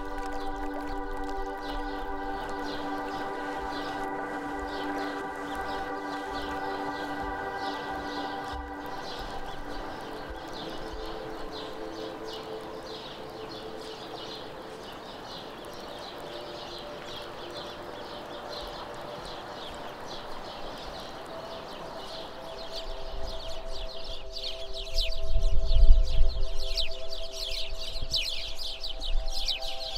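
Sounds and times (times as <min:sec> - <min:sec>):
river water flowing: 0:00.0 - 0:25.2.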